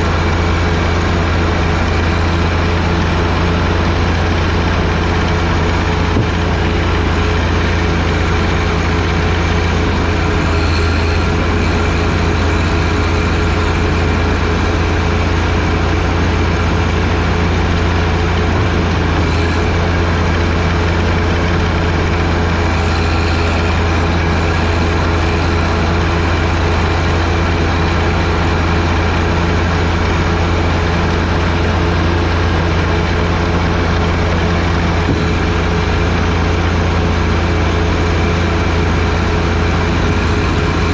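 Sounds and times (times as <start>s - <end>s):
snowblower rushing noise: 0.0s - 40.9s
tractor diesel engine running: 0.0s - 40.9s.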